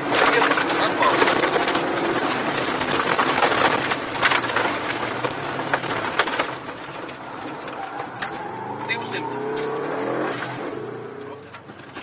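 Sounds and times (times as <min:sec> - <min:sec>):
car engine running hard: 0:00.0 - 0:12.0
gravel rattling against car underside: 0:00.0 - 0:12.0.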